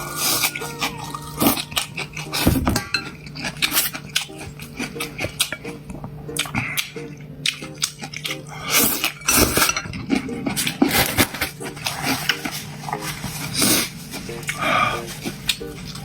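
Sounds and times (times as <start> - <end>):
utensils clinking on dishes: 0.0 - 16.0.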